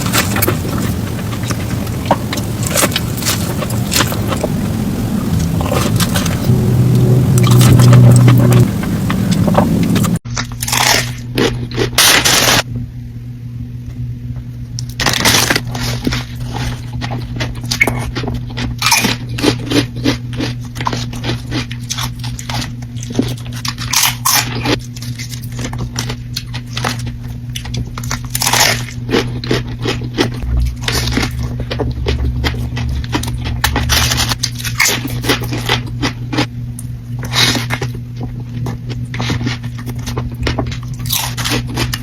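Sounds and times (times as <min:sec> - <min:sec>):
crunchy food being chewed: 0:00.0 - 0:12.6, 0:14.8 - 0:42.0
steady low hum: 0:00.0 - 0:42.0.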